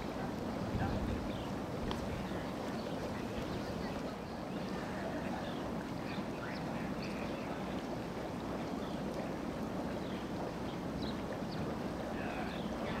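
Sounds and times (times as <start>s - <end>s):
pond water rushing: 0.0s - 13.0s.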